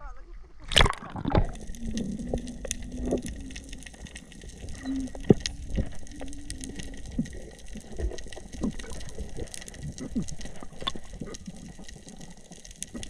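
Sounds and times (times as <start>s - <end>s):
water gushing and gurgling: 0.4s - 13.0s.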